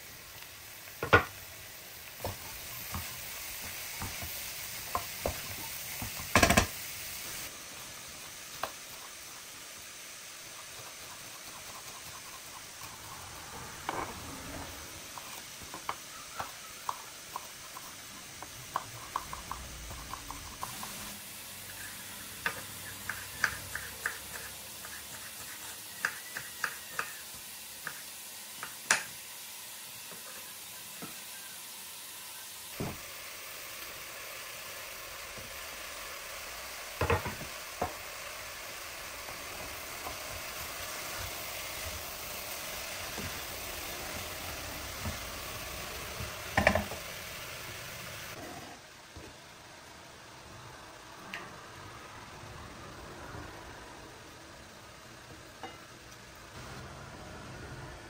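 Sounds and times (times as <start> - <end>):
vegetables sizzling in a pot: 0.0 - 58.0.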